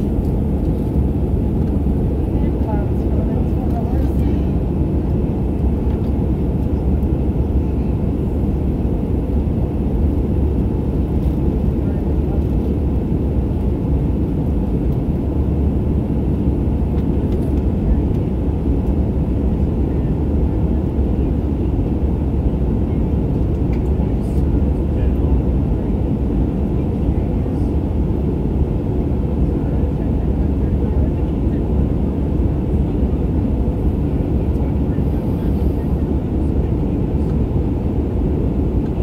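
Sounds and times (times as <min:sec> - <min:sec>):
jet airliner cabin engine noise: 0:00.0 - 0:39.0.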